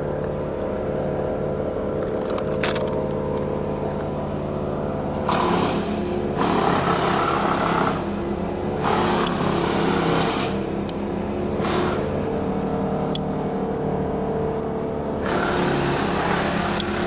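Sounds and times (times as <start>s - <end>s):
crane engine running and revving: 0.0s - 17.0s.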